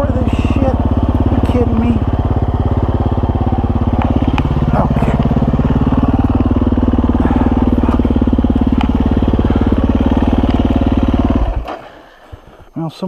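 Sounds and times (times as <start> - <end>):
dirt bike engine thumping: 0.0 - 12.7.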